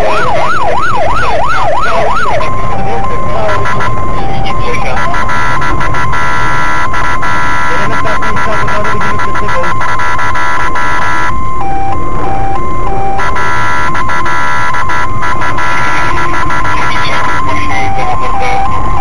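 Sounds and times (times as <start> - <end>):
electronic siren tone: 0.0 - 19.0.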